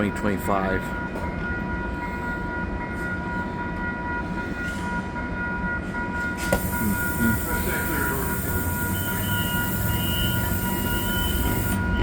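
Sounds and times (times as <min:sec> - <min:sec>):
train engine high whine: 0:00.0 - 0:12.0
train engine low rumble: 0:00.0 - 0:12.0.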